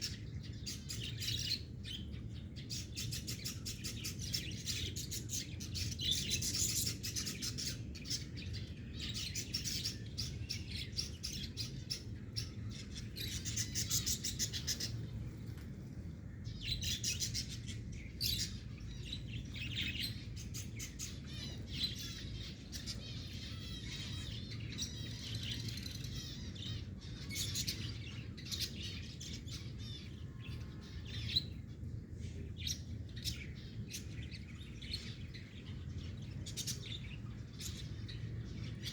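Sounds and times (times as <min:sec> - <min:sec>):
pet birds chirping: 0:00.0 - 0:15.3, 0:16.2 - 0:38.9.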